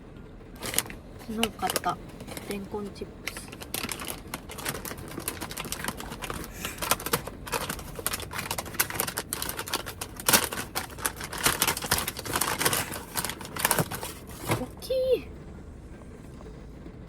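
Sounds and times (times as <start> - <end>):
plastic snack bag crinkling: 0.6 - 14.7.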